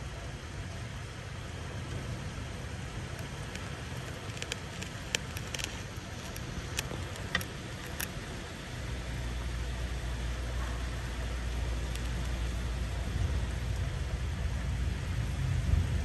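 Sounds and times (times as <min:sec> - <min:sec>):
heavy rain: 0:00.0 - 0:16.0
raindrops tapping on window: 0:01.7 - 0:15.2.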